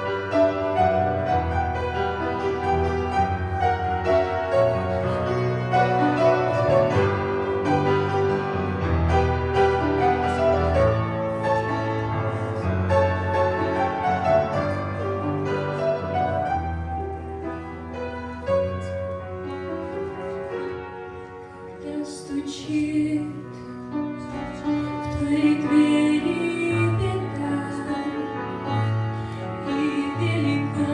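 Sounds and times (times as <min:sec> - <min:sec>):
instrumental piano music: 0:00.0 - 0:30.9.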